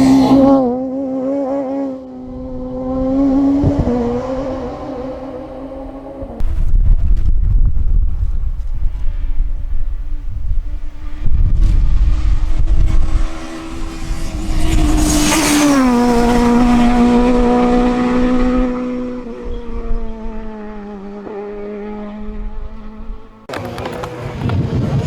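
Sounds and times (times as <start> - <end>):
rally car passing at speed: 0.0 - 7.2, 8.2 - 25.0.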